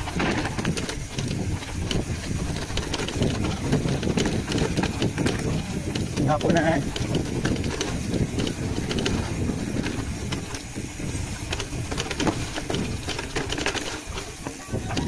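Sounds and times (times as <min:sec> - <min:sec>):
clicks and rattles: 0:00.0 - 0:15.0
road noise: 0:00.0 - 0:15.0
wind on microphone: 0:00.0 - 0:15.0.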